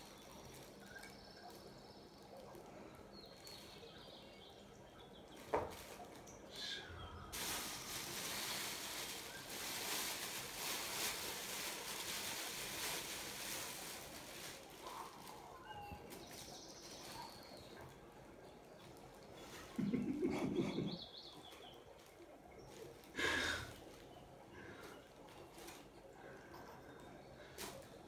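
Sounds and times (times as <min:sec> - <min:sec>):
plastic bags rustling: 0:00.0 - 0:02.7, 0:05.3 - 0:06.3, 0:07.3 - 0:28.0.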